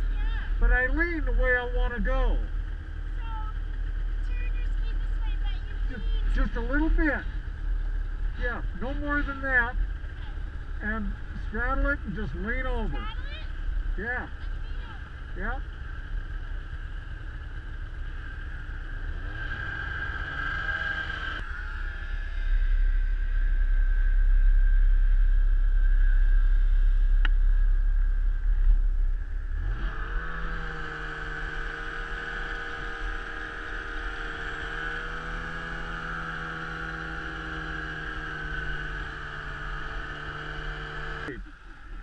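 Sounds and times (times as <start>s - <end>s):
snowmobile engine revving: 0.0s - 15.6s, 18.2s - 25.2s, 29.2s - 41.7s.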